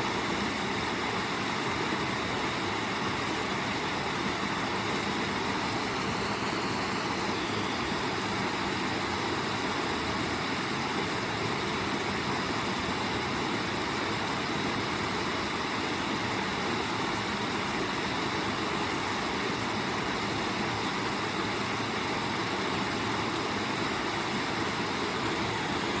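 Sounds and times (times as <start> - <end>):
waterfall: 0.0 - 26.0.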